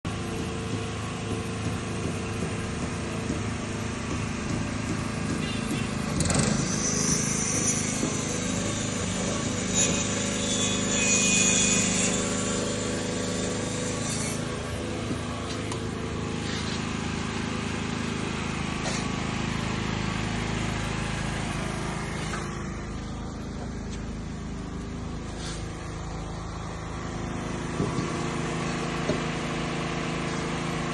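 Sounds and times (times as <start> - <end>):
engine running: 0.1 - 30.9.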